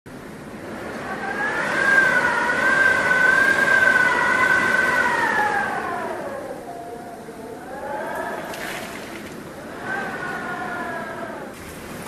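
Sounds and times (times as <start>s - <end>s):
wind howling with whistle: 0.1s - 12.0s.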